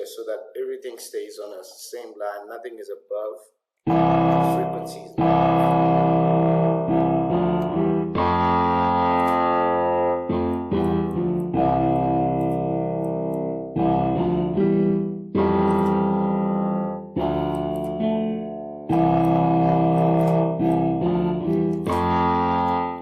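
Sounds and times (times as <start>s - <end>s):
piano keyboard chords: 3.9s - 23.0s.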